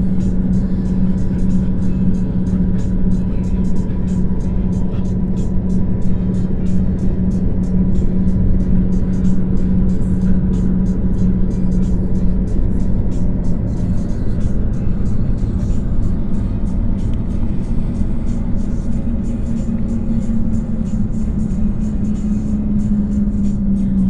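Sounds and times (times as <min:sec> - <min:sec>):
car cabin rumble: 0:00.0 - 0:24.0
music with fast ticking beat: 0:00.0 - 0:24.0.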